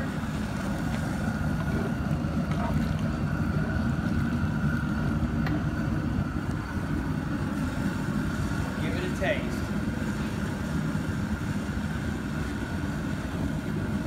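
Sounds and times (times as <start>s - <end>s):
propane burner rumbling: 0.0s - 14.0s.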